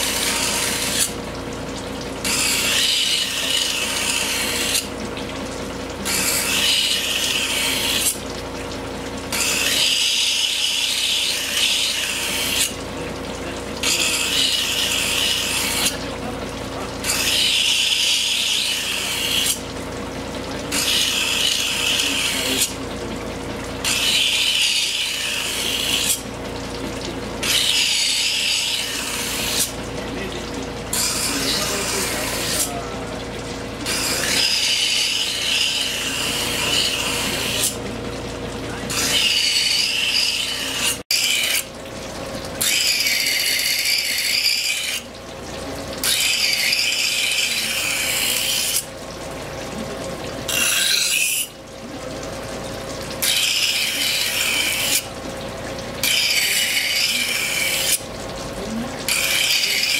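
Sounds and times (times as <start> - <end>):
knife blade on grinding wheel: 0.0 - 8.4, 9.1 - 59.9
grinder motor humming: 0.0 - 59.9.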